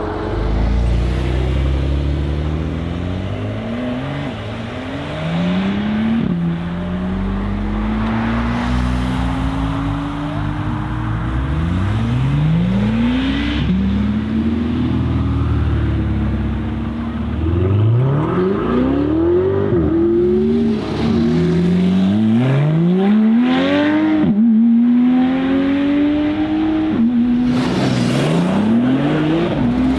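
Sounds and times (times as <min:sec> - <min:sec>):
sports car engines accelerating: 0:00.0 - 0:29.9.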